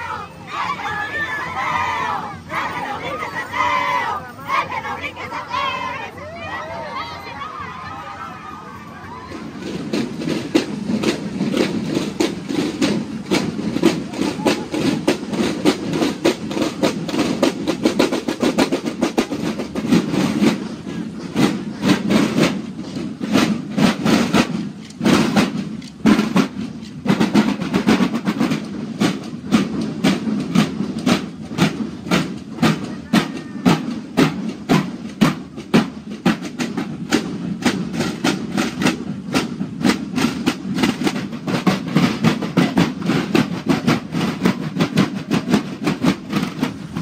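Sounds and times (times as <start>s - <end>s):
snare drums marching cadence: 0.0s - 6.2s, 9.0s - 47.0s.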